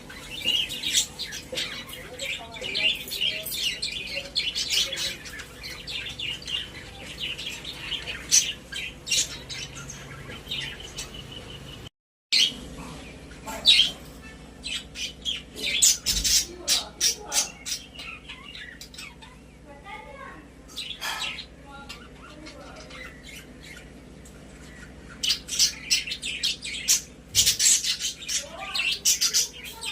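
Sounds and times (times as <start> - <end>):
budgerigars chirping and chattering: 0.0 - 29.9.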